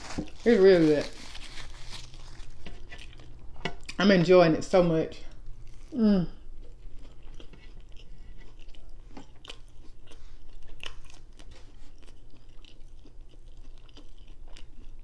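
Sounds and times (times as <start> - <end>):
person chewing crispy food: 0.0 - 4.0, 5.3 - 15.0.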